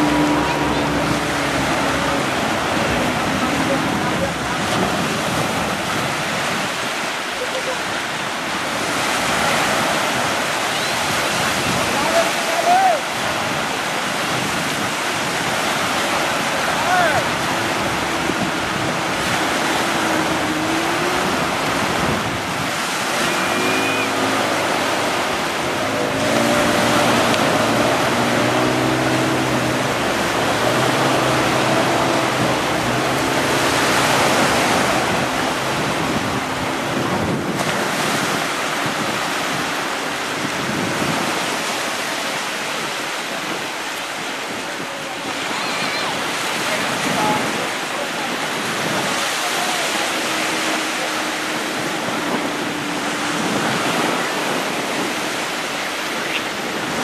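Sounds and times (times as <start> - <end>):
wind and sea water rushing: 0.0 - 57.0
wind buffeting microphone: 0.0 - 57.0.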